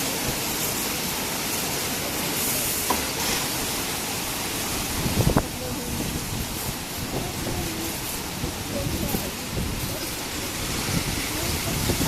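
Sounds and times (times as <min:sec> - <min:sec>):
car wash water jets hissing: 0:00.0 - 0:12.0.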